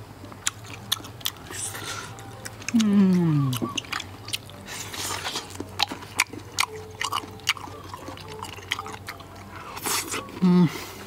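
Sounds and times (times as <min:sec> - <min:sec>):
mouth smacking and chewing: 0:00.3 - 0:10.5.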